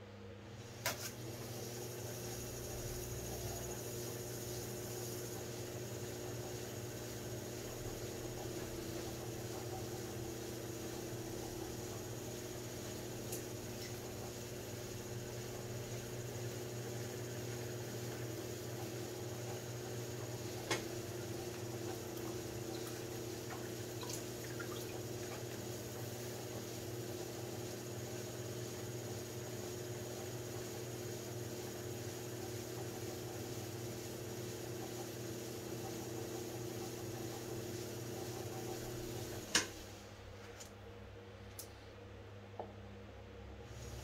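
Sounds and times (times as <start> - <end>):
potter's wheel humming: 0.6 - 40.2.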